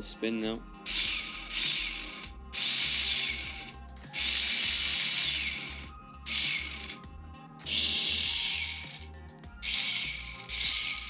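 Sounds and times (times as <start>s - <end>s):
electric motor spinning gearbox: 0.9s - 11.0s.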